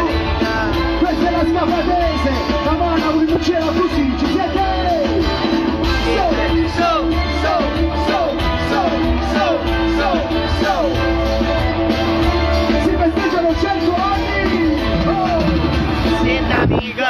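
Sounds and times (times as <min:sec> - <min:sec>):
electric guitar: 0:00.0 - 0:16.8
bass: 0:00.0 - 0:17.0
drums: 0:00.0 - 0:17.0
live band music through pa: 0:00.0 - 0:17.0.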